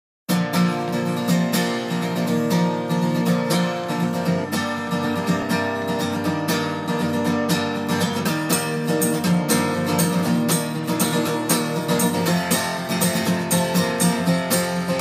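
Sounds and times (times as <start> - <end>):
acoustic guitar strumming: 0.3 - 15.0.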